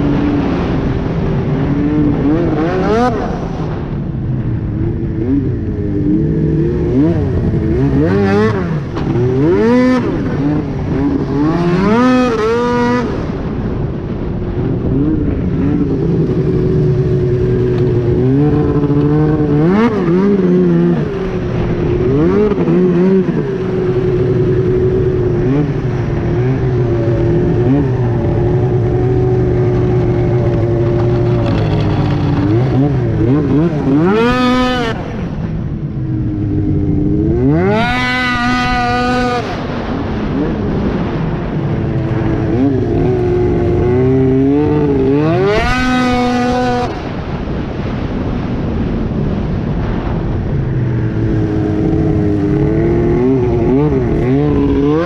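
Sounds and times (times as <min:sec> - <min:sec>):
snowmobile engine revving: 0:00.0 - 0:03.9, 0:04.8 - 0:13.5, 0:14.9 - 0:48.1, 0:50.7 - 0:55.0.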